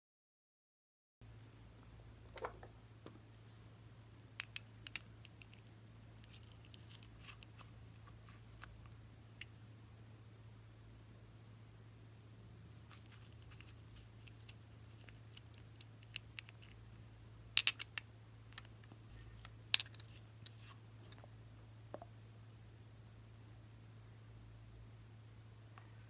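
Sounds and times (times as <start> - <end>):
steady low hum: 1.2 - 26.0.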